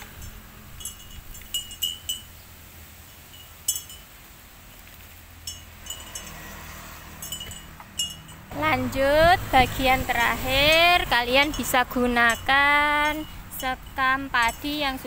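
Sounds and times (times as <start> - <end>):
metallic chimes tinkling: 0.0 - 4.4, 5.4 - 9.0, 9.8 - 15.0.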